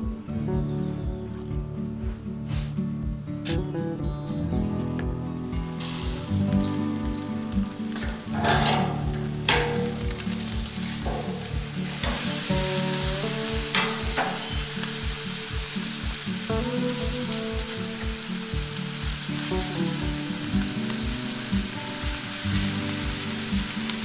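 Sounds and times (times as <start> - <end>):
music with steady beat: 0.0 - 24.0
chicken sizzling on grill: 2.0 - 2.8, 5.0 - 24.0.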